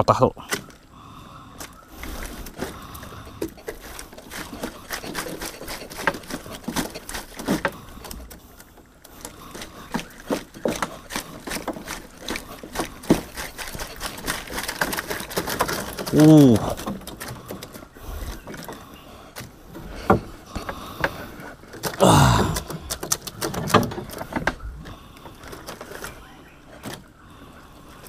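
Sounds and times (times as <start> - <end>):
prawns tapping and clicking: 1.5 - 27.1.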